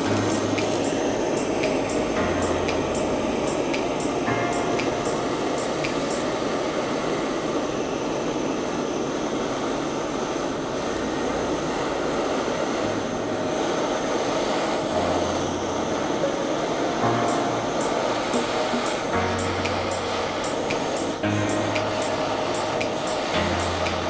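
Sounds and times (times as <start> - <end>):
gas torch flame roaring: 0.0 - 24.0.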